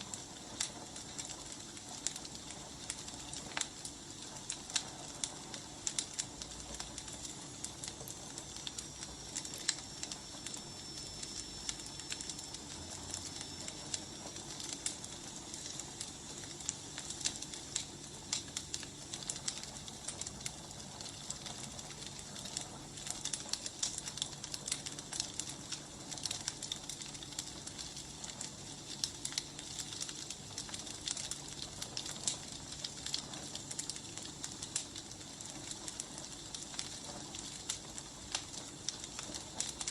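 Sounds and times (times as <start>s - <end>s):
firewood crackling and popping: 0.0s - 39.9s
soft hiss of fire: 0.0s - 39.9s.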